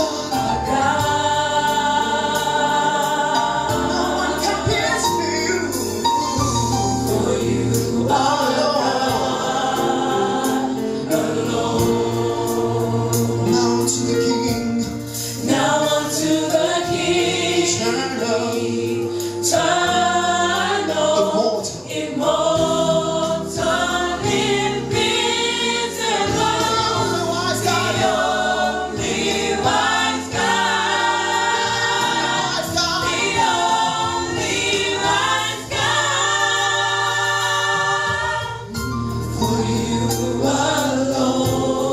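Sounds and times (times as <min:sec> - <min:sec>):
choir singing gospel: 0:00.0 - 0:41.9.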